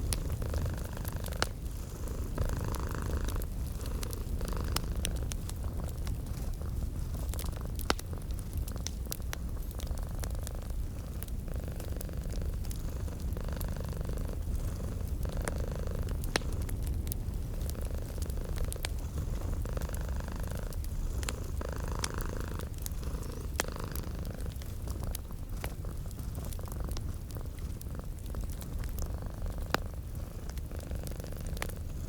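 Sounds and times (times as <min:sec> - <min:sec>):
cat purring: 0:00.0 - 0:32.0
wood fire crackling: 0:00.0 - 0:32.0.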